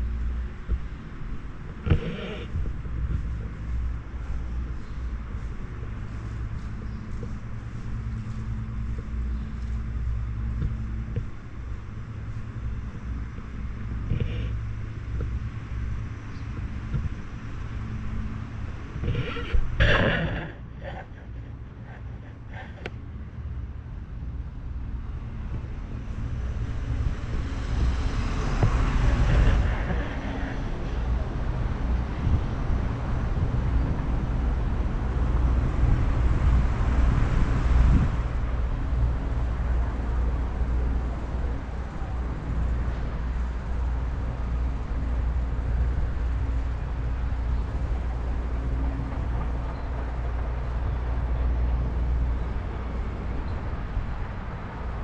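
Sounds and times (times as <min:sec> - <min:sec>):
road traffic rumble: 0:00.0 - 0:55.0
vehicles passing: 0:00.0 - 0:55.0.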